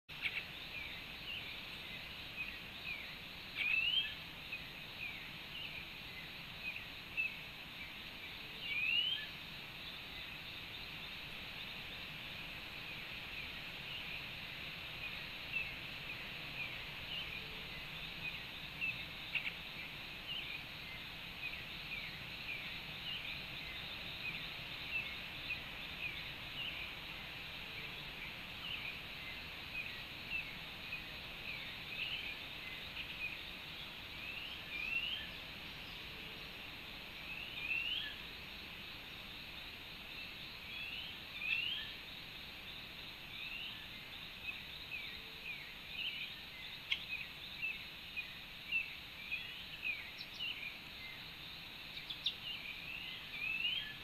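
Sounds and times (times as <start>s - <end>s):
insect chorus: 0.1s - 54.0s.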